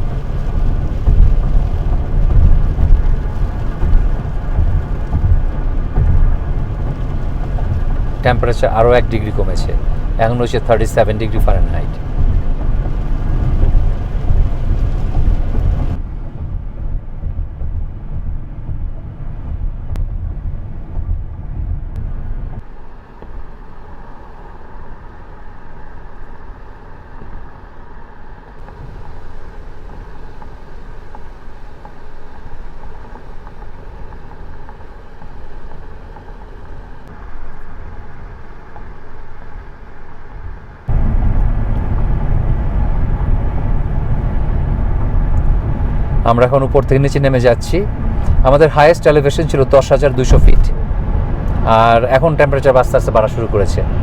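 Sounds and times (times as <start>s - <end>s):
car cabin road noise hiss: 0.0s - 54.0s
car engine low rumble: 0.0s - 54.0s.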